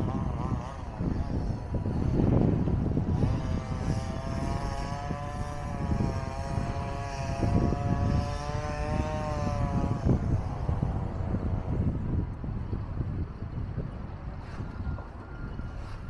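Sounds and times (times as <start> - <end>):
low rumble of wind: 0.0 - 16.0
mechanical drone: 0.0 - 16.0
traffic rumble: 0.0 - 16.0.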